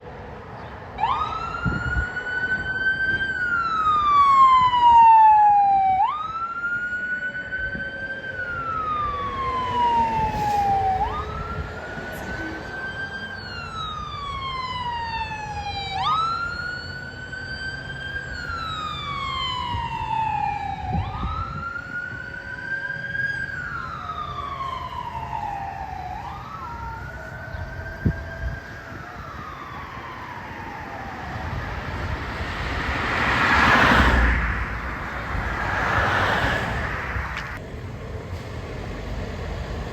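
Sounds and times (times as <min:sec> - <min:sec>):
emergency siren wailing: 0:00.0 - 0:37.6.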